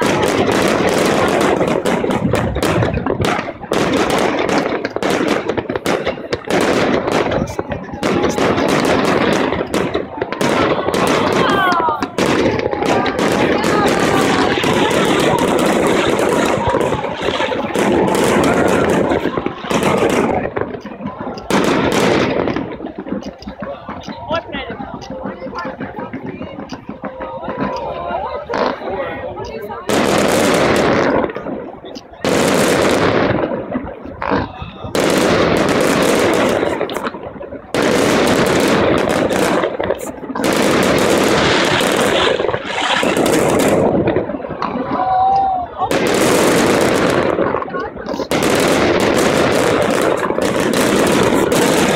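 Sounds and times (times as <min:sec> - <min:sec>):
fireworks crackling and popping: 0:00.0 - 0:51.9.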